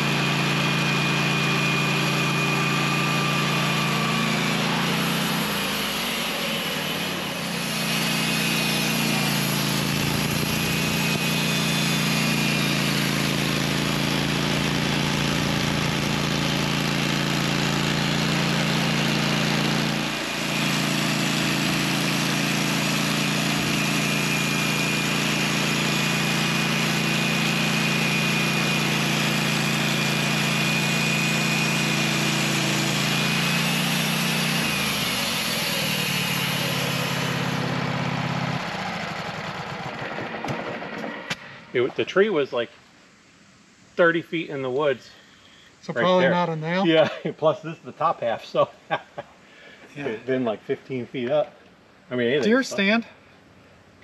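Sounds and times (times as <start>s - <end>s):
sawmill engine running: 0.0s - 42.6s, 52.2s - 53.1s.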